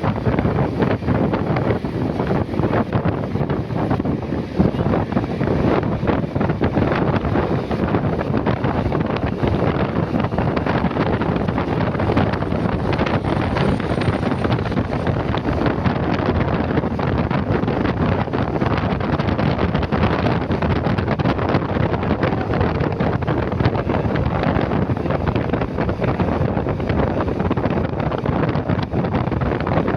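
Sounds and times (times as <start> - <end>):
motorcycle noise: 0.0 - 29.9
wind buffeting microphone: 0.0 - 29.9.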